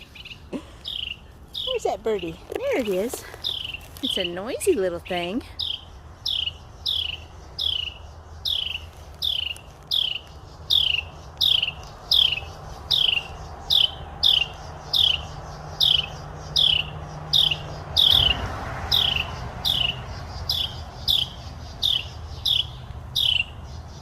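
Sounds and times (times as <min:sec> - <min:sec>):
small bird alarm call: 0:00.0 - 0:24.0.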